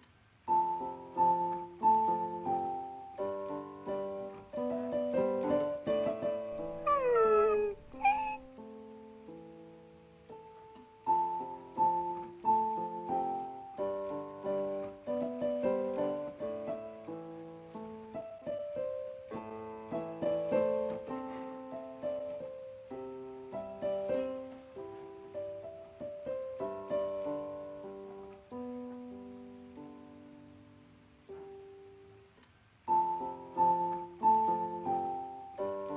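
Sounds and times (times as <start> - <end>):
slow piano music: 0.0 - 35.9.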